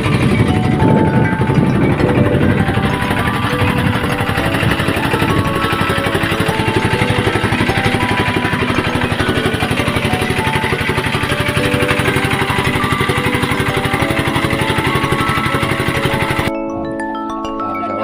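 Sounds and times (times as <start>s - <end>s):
motorboat engine pulsing: 0.0s - 18.0s.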